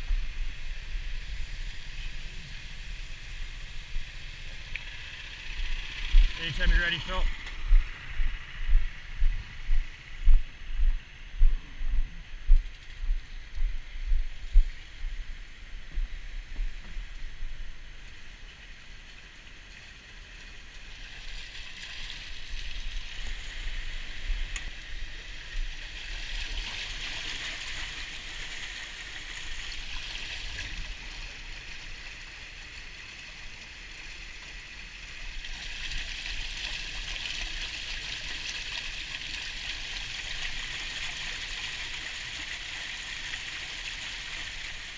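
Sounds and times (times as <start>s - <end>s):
water rushing and splashing: 0.0s - 8.9s, 17.5s - 44.9s.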